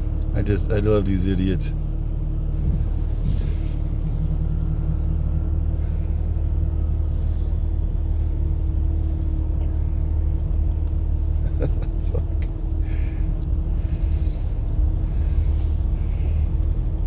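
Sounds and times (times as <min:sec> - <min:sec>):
car engine and tyre rumble: 0:00.0 - 0:17.0
faint constant hum: 0:00.0 - 0:17.0.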